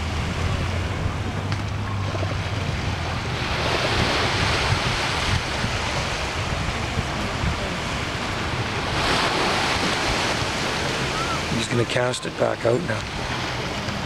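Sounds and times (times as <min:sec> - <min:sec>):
wind rumbling on microphone: 0:00.0 - 0:11.8
ocean surf washing ashore: 0:00.0 - 0:14.0.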